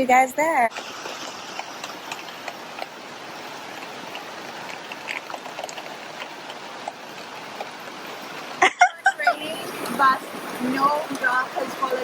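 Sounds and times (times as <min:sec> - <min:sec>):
heavy rain hissing: 0:00.7 - 0:05.1, 0:05.9 - 0:12.0
raindrops tapping on leaves: 0:00.7 - 0:12.0.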